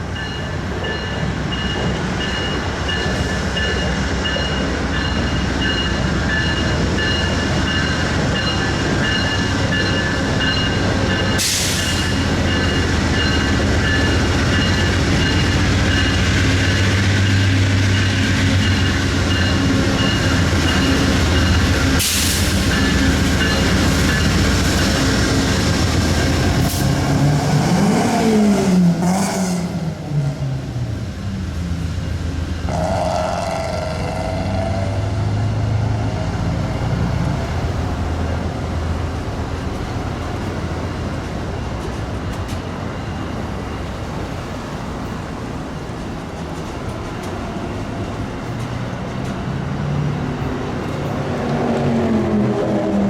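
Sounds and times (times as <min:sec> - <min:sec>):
diesel locomotive rumbling: 0:00.0 - 0:53.0.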